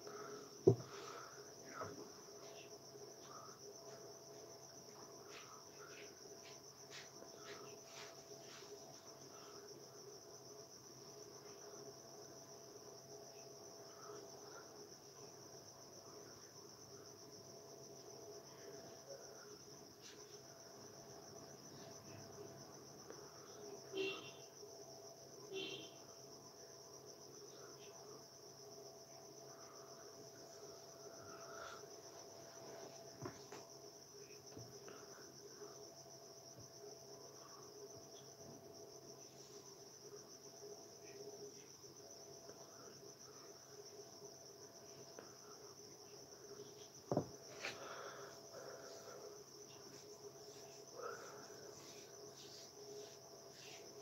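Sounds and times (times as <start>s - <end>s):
crickets chirring: 0.0s - 54.0s.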